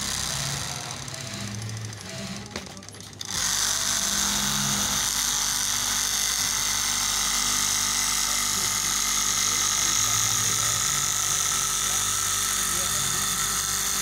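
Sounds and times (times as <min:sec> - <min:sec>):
cloth cutting machine running: 0:00.0 - 0:14.0.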